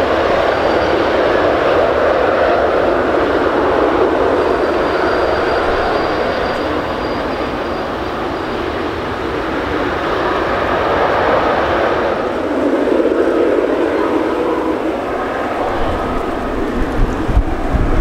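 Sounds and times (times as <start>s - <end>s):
faint high whine: 0.0s - 18.0s
jet engine roar: 0.0s - 18.0s.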